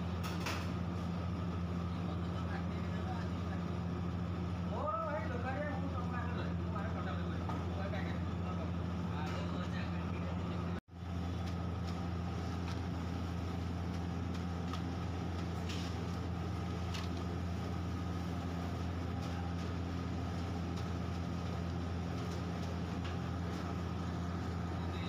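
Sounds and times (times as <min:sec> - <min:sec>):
loud steady low hum: 0:00.0 - 0:25.0.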